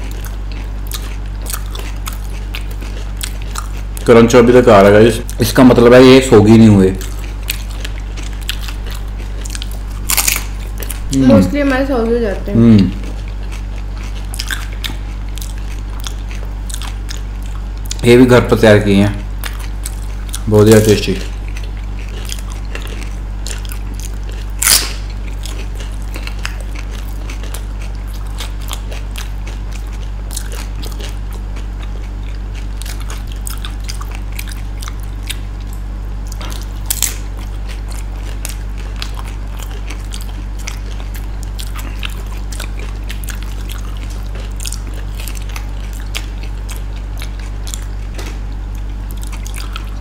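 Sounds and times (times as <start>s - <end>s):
crunching bites and chewing: 0.0s - 11.4s, 12.6s - 18.4s, 19.2s - 50.0s
steady low hum: 0.0s - 50.0s.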